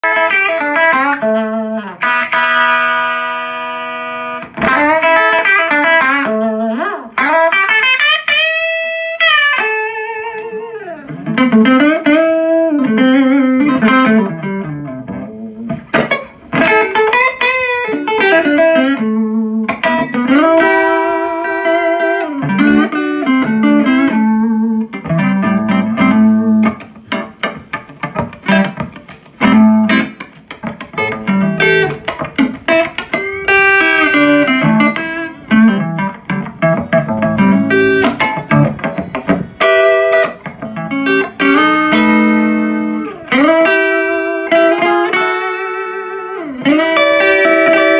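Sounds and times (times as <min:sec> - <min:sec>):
electric guitar playing: 0:00.0 - 0:47.9.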